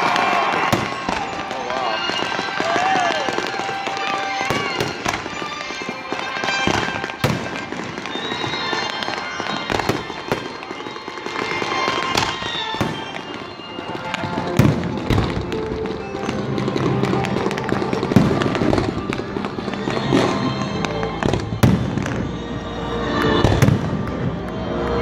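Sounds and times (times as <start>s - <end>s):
fireworks bursting with sharp bangs: 0.0s - 24.7s
background music: 0.0s - 25.0s.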